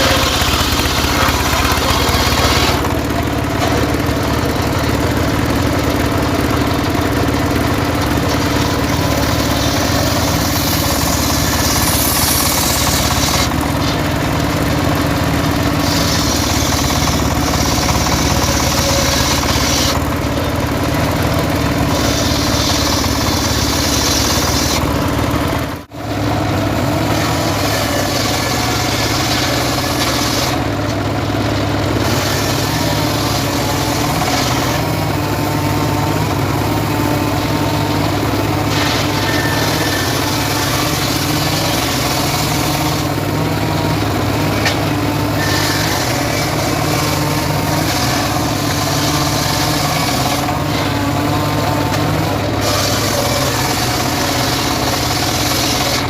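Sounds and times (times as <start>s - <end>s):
saw cutting wood hiss: 0.0s - 20.4s, 21.1s - 25.5s, 26.8s - 31.1s, 31.9s - 56.0s
sawmill engine drone: 0.0s - 56.0s.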